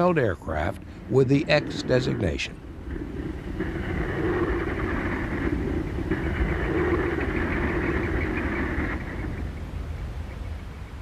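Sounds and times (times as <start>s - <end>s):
aircraft engine drone: 0.0s - 11.0s.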